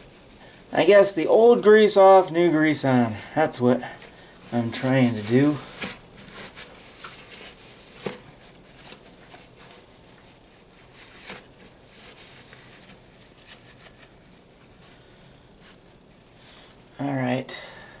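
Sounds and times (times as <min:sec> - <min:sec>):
hand rubbing and wiping parts: 0:00.0 - 0:16.4.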